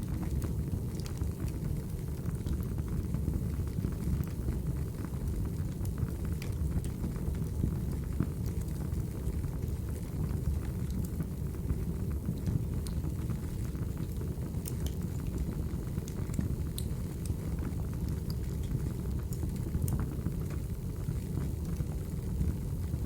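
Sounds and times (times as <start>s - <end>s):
wood fire burning: 0.0s - 23.0s.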